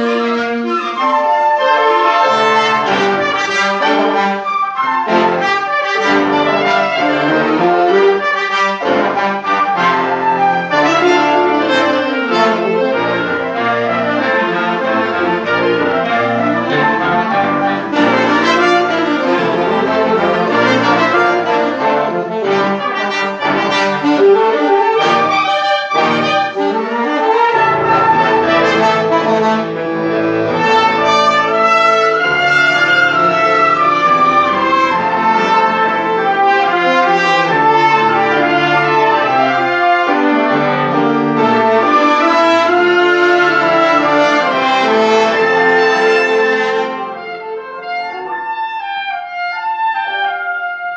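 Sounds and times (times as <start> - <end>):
live brass ensemble music: 0.0 - 50.9.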